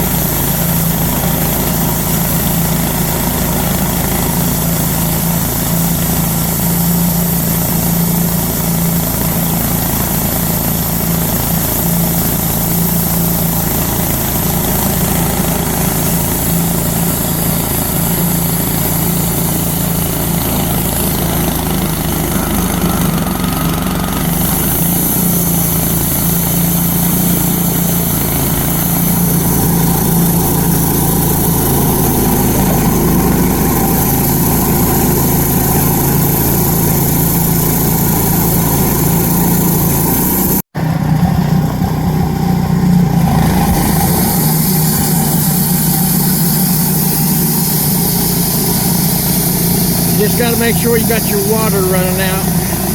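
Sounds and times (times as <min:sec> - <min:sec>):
band sawmill cutting log: 0:00.0 - 0:52.9.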